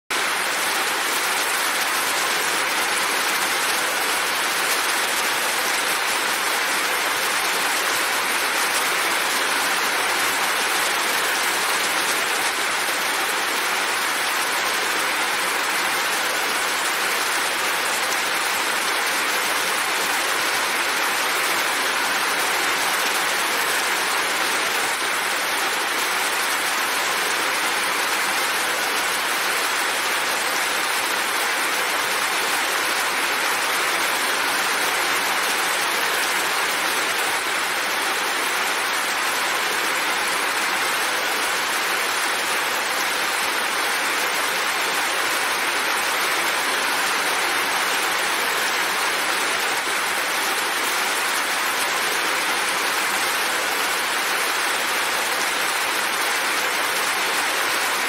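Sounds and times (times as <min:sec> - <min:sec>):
steady rain falling: 0:00.1 - 0:58.0.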